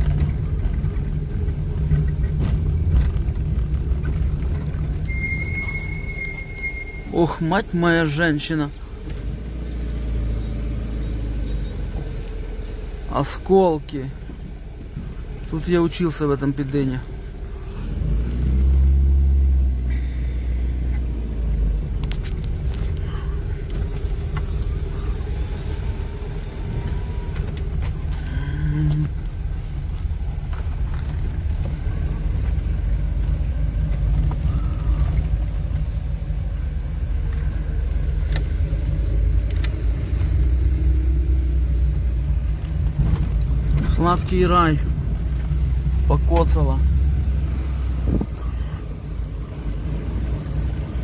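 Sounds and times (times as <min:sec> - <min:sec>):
car engine and road rumble: 0:00.0 - 0:51.0.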